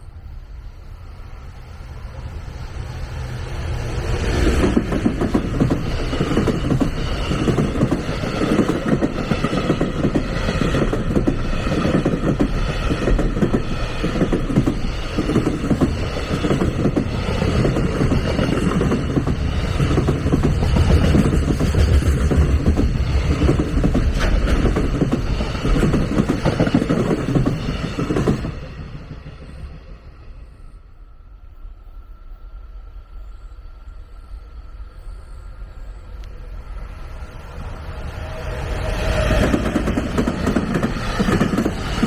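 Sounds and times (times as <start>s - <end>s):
train passing: 0.0s - 42.0s.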